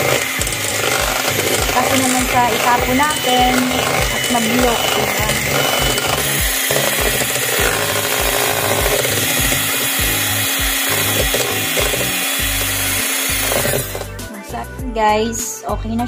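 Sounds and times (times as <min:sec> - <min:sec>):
electric hand mixer whisking: 0:00.0 - 0:14.2.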